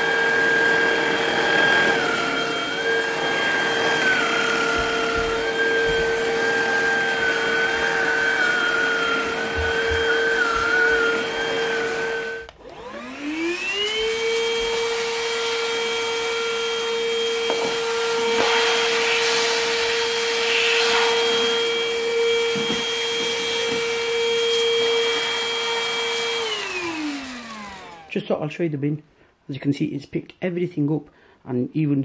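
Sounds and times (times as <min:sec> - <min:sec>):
stick vacuum whining: 0:00.0 - 0:28.5.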